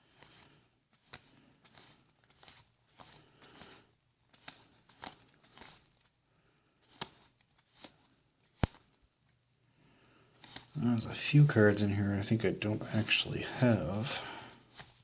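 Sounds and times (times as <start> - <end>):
trading cards rustling and clicking: 0.0 - 9.4, 10.3 - 15.0.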